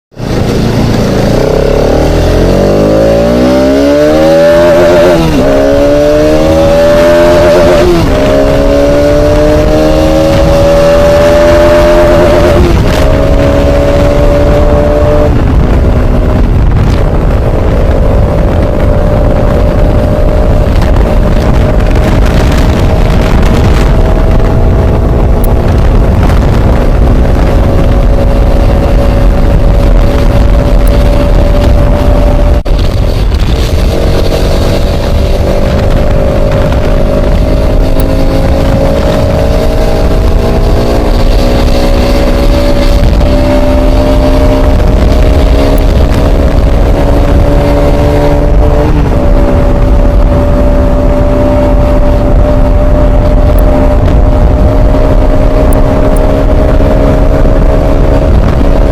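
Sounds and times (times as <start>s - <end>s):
motorcycle engine accelerating: 0.1s - 58.9s
rushing noise: 0.1s - 58.9s.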